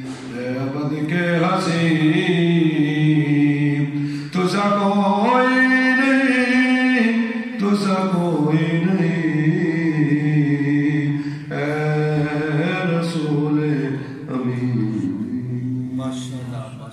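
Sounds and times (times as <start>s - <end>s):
man singing unaccompanied: 0.0s - 16.8s.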